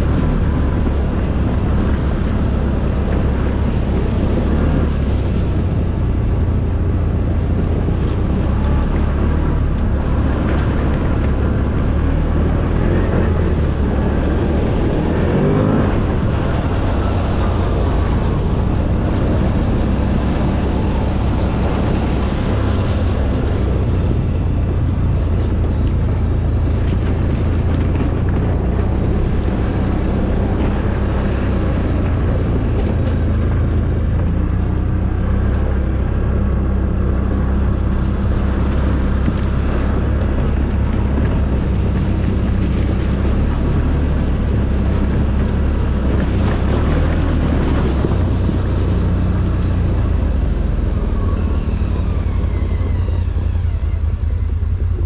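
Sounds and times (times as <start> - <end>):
atv engine droning: 0.0 - 55.0.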